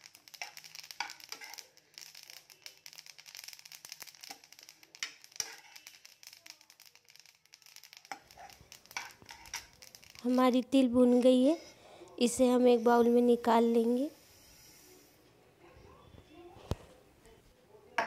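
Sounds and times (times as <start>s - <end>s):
seeds scraping in a metal pan: 0.0s - 15.2s.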